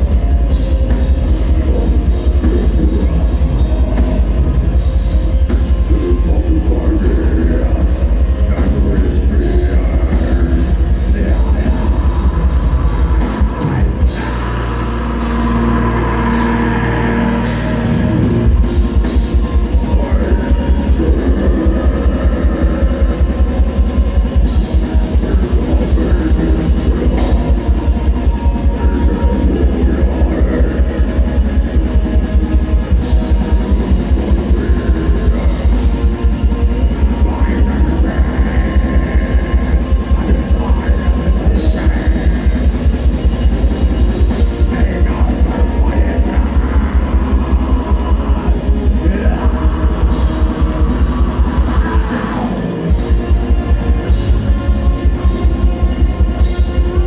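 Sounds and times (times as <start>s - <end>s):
bass guitar: 0.0s - 57.0s
distorted electric guitars: 0.0s - 57.0s.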